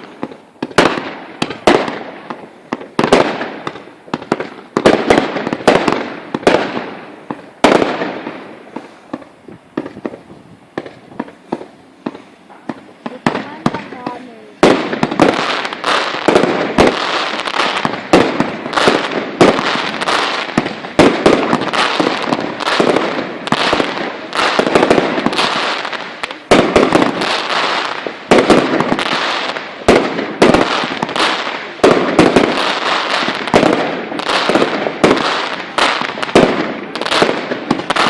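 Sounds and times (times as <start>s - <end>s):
fireworks banging and crackling: 0.0s - 38.0s.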